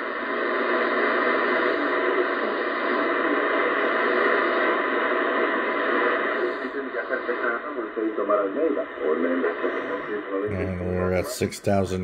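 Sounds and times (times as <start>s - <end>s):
shortwave radio static hiss: 0.0s - 12.0s.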